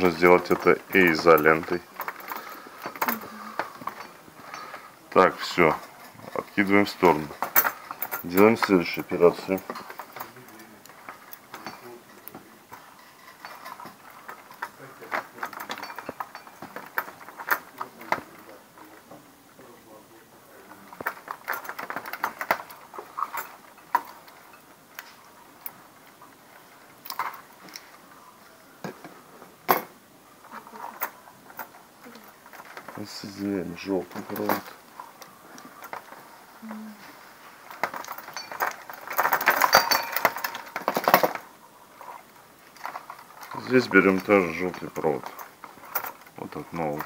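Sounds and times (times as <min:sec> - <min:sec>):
wires and plastic parts handled: 0:00.0 - 0:47.0.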